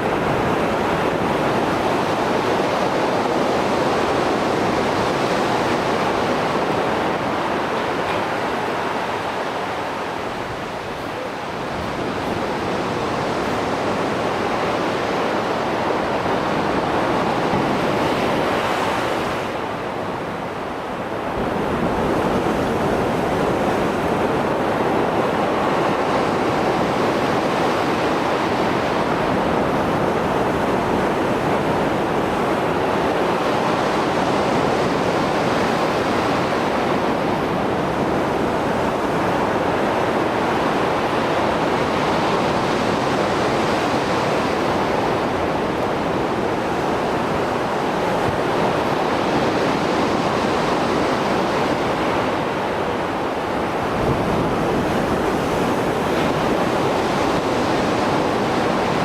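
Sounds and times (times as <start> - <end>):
waves breaking and washing: 0.0 - 59.0.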